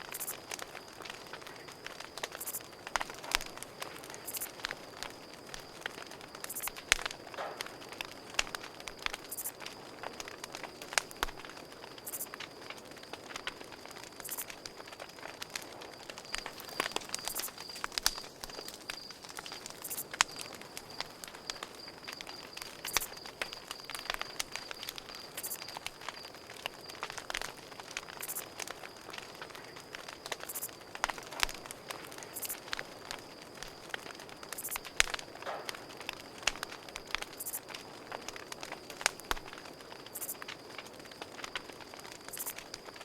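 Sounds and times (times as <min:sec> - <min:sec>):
campfire crackling and popping: 0:00.0 - 0:43.0
cricket chirping: 0:00.0 - 0:43.0.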